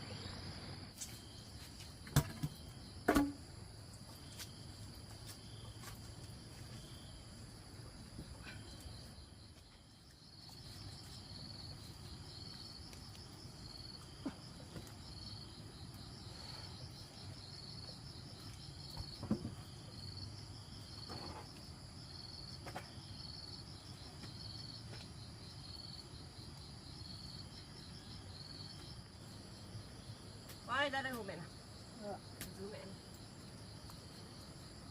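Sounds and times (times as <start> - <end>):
insects trilling: 0.0 - 34.9.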